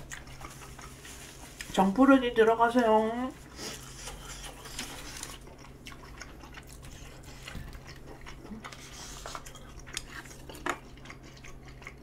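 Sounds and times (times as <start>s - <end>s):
person chewing food: 0.0s - 2.0s, 3.4s - 12.0s.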